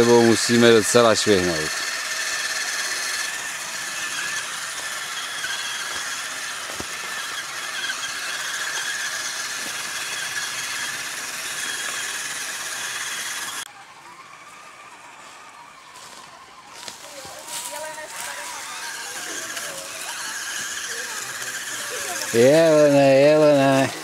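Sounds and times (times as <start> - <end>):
rc car motor whining: 0.0 - 24.0.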